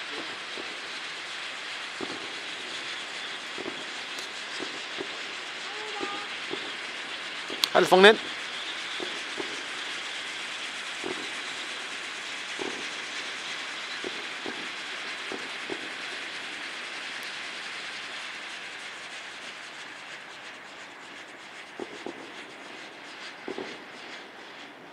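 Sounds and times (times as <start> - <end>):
fireworks fountain hissing: 0.0 - 24.9.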